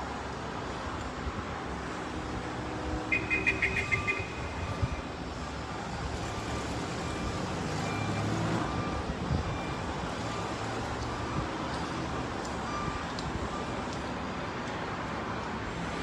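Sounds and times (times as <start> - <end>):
distant road traffic rumble: 0.0 - 16.0.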